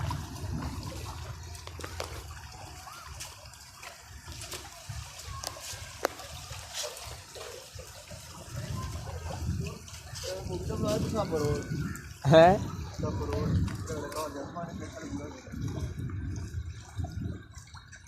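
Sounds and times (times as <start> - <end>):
rainwater trickling: 0.0 - 18.0
water dripping and splashing: 0.0 - 18.0.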